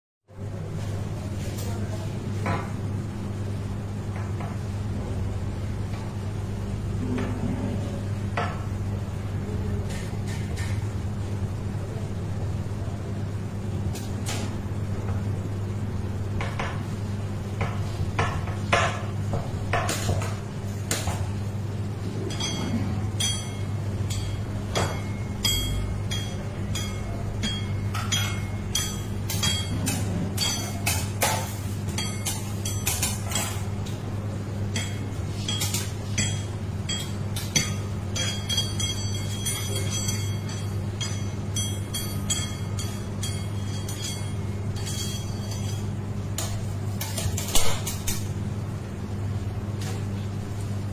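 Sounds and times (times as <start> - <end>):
steady low hum: 0.3 - 50.9.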